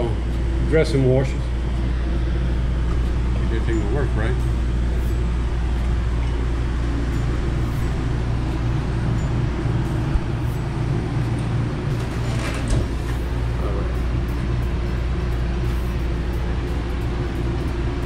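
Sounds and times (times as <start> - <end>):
low droning hum: 0.0 - 18.0.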